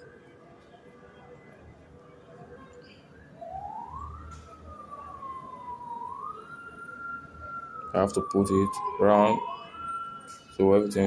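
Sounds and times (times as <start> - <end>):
distant siren wailing: 1.2 - 11.0.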